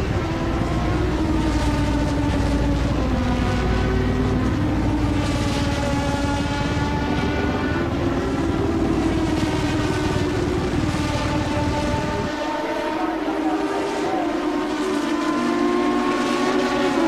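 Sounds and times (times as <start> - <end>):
racing engine at high revs: 0.0 - 17.0.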